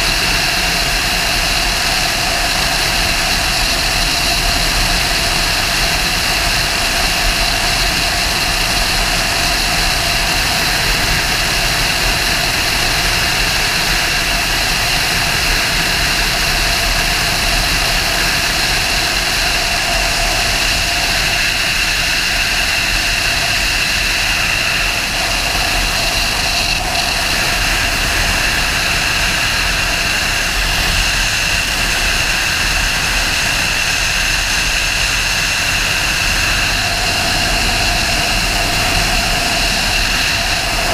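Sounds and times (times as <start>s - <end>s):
motorcycle engine cruising: 0.0s - 40.9s
wind over microphone: 0.0s - 40.9s.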